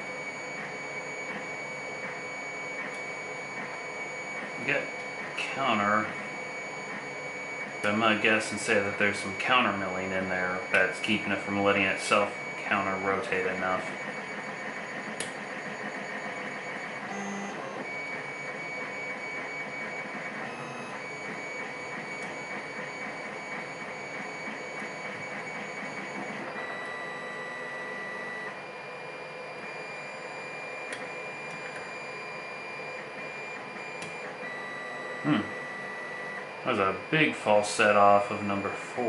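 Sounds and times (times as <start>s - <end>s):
faint high whine: 0.0s - 39.0s.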